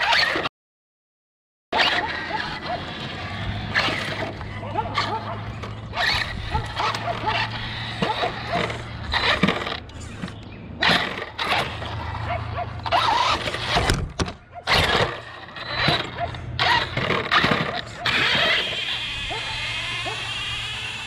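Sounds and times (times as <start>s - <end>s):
rc truck motor surging: 0.0s - 0.5s, 1.8s - 14.0s, 14.6s - 21.0s.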